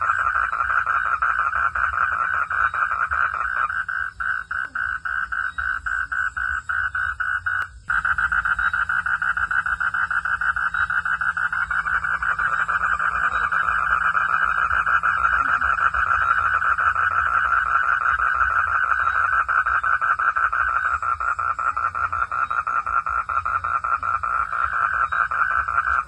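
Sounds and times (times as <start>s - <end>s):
frogs calling in chorus: 0.0s - 26.0s.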